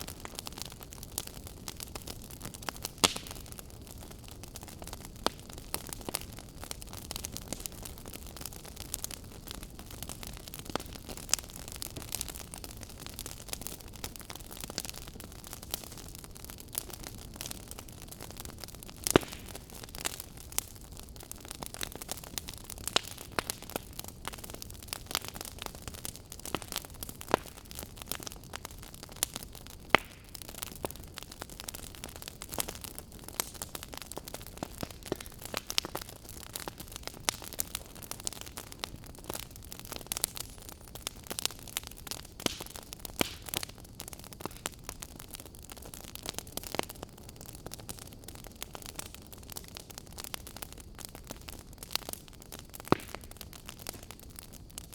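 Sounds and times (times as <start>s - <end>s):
fire crackling: 0.0s - 54.9s
soft steady hiss: 0.0s - 54.9s.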